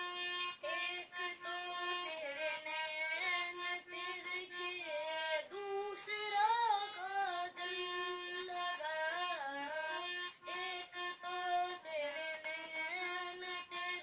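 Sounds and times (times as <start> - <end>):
boy singing: 0.0 - 14.0
harmonium: 0.0 - 14.0.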